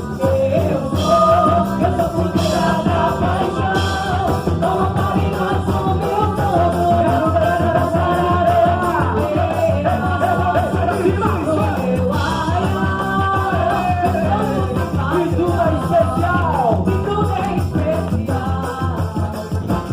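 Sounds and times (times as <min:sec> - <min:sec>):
upbeat folk song with singing: 0:00.0 - 0:19.9.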